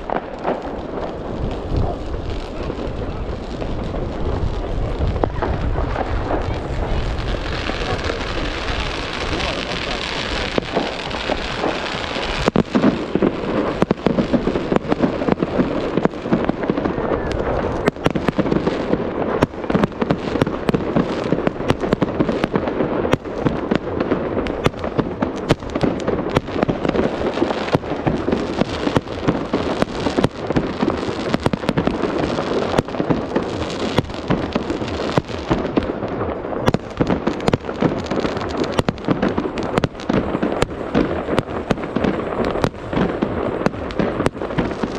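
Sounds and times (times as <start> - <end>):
fireworks crackling rumble: 0.0 - 44.9
fireworks cracks and bangs: 0.0 - 44.9.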